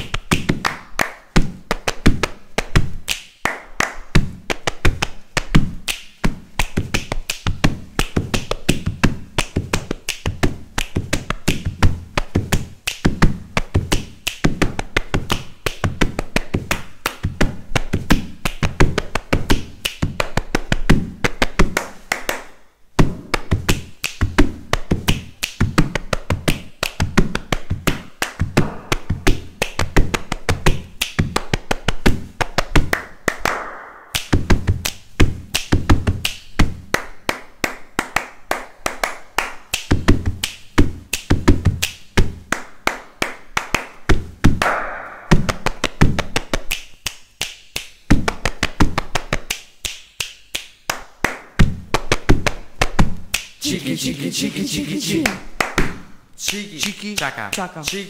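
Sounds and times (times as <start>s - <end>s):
hand claps and slaps: 0.0s - 58.0s.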